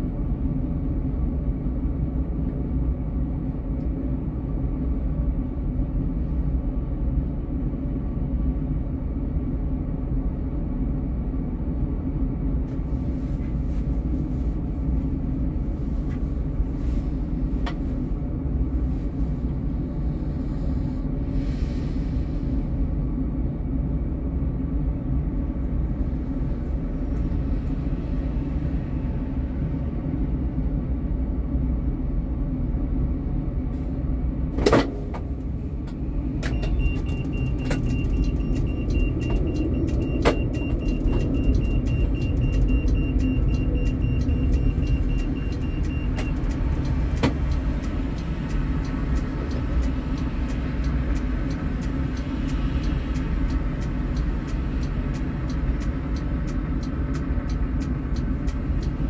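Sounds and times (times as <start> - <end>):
tram rumbling: 0.0 - 59.0.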